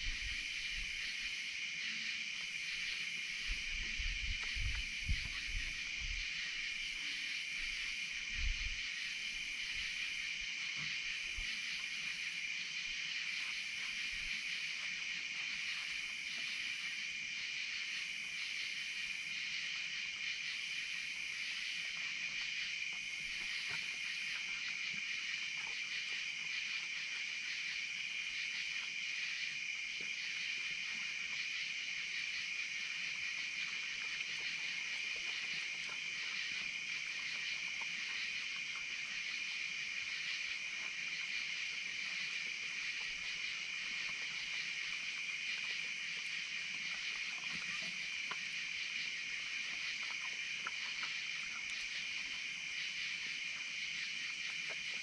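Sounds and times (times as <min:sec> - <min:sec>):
insects chirping chorus: 0:00.0 - 0:55.0.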